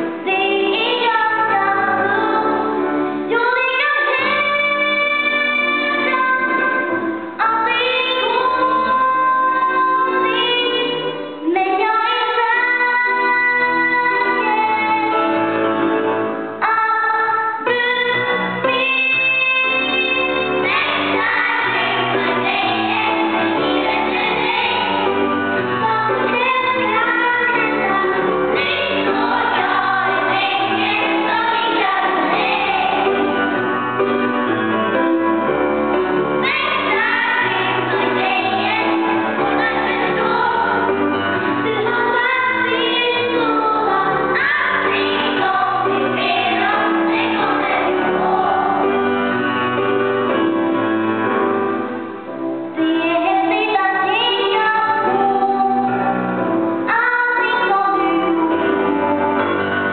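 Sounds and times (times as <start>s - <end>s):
children's choir singing: 0.0s - 15.4s, 16.6s - 34.6s, 36.3s - 50.4s, 52.8s - 56.2s, 56.8s - 59.9s
keyboard chords: 0.0s - 59.9s.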